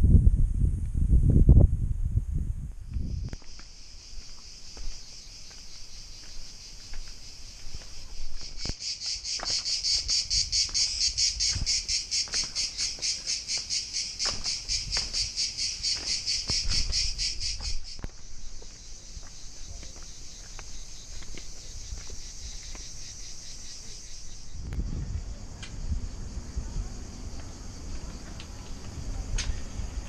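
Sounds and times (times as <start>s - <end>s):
cicadas buzzing: 2.8s - 30.0s
footsteps on stone paving: 2.9s - 24.7s, 27.3s - 30.0s.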